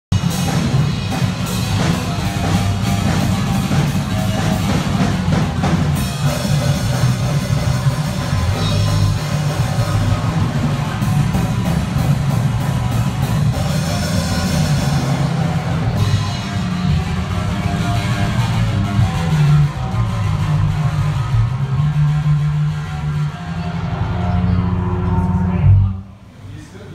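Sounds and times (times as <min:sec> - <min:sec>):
drum kit with cymbals: 0:00.1 - 0:24.6
electric bass line: 0:00.1 - 0:26.5.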